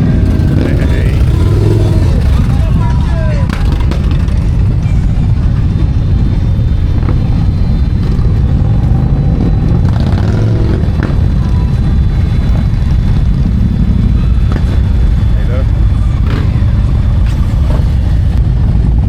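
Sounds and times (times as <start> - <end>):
motorcycle engine: 0.0 - 19.0
wind noise: 0.0 - 19.0.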